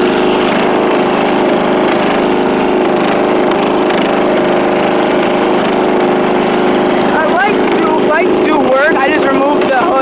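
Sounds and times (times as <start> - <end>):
riding lawn mower engine running: 0.0 - 10.0.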